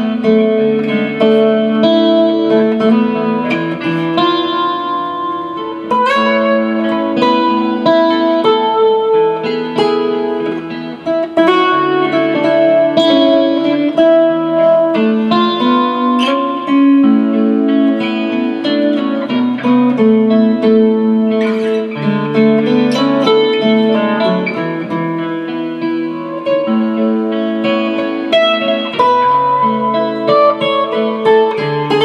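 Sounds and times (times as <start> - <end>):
acoustic guitar melody: 0.0 - 32.0
looped rhythm guitar chords: 0.0 - 32.0.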